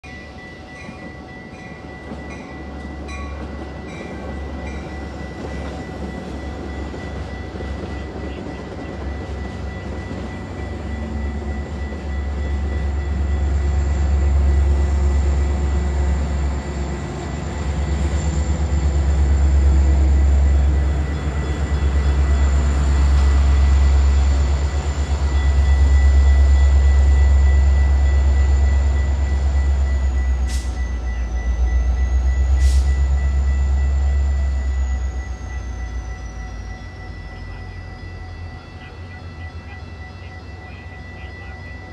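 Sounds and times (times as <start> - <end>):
faint steady high tones: 0.0 - 41.9
train rumbling past: 0.0 - 41.9.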